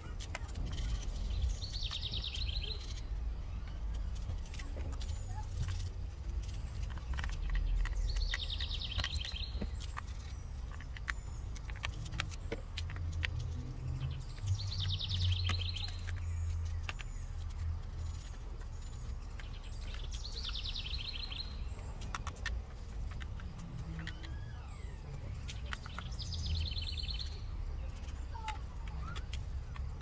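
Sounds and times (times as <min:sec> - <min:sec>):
brush scrubbing wet wheel: 0:00.0 - 0:30.0.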